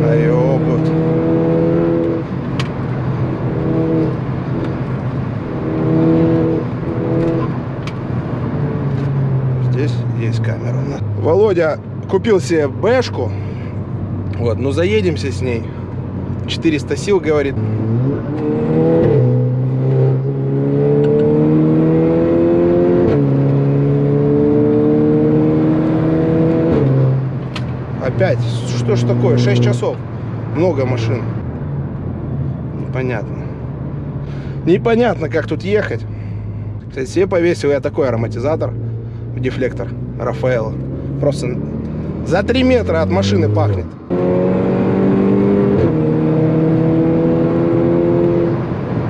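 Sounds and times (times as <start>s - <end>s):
car engine drone: 0.0s - 49.0s
road noise: 0.0s - 49.0s.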